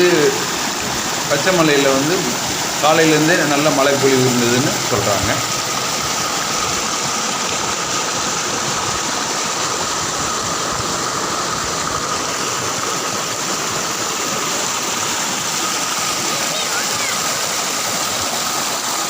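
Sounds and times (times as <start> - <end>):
stream and waterfall rushing: 0.0 - 19.0.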